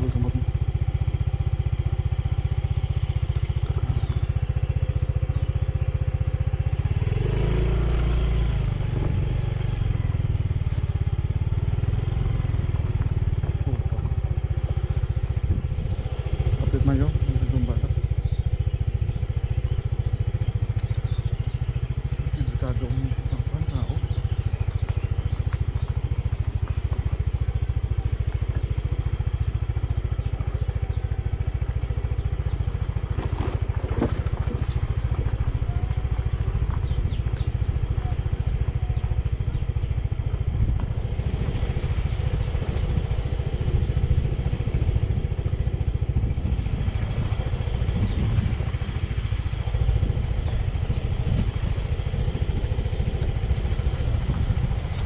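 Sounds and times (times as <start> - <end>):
motorbike engine running: 0.0 - 55.0.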